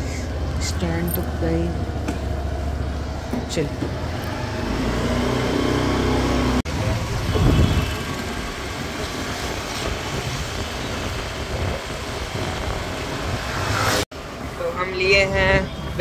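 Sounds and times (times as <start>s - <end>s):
motorcycle engine surging: 0.0s - 14.0s
road and wind noise: 0.0s - 16.0s.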